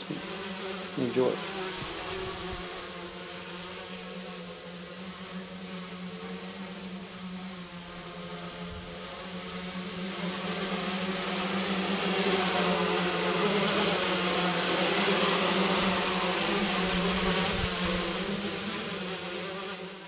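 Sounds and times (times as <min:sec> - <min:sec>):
steady hum: 0:00.0 - 0:19.6
quadcopter propellers buzzing: 0:00.0 - 0:20.0.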